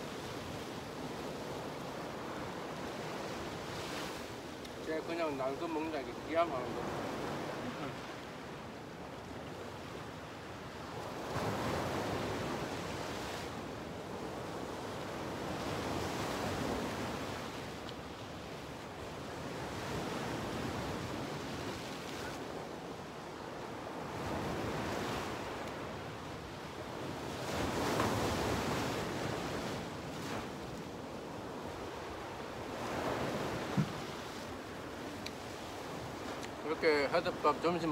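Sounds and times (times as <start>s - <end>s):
ocean surf breaking on rocks: 0.0s - 37.9s.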